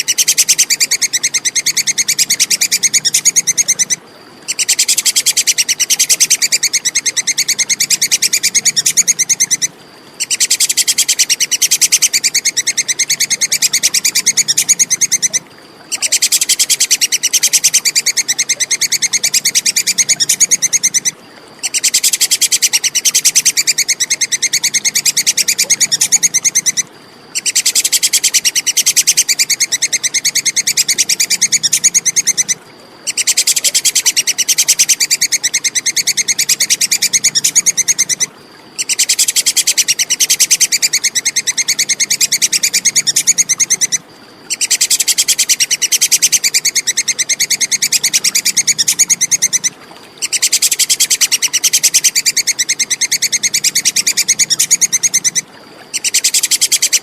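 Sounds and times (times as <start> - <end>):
squirrel chattering call: 0.0 - 57.0.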